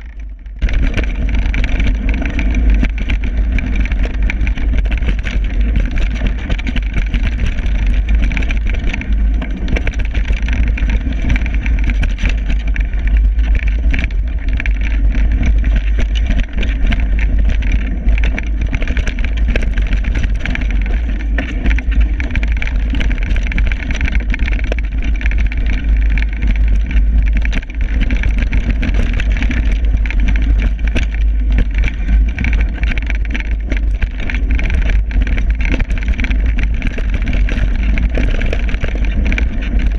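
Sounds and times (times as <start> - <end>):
bike rattling over bumps: 0.0 - 39.9
wind rumble on microphone: 0.0 - 39.9.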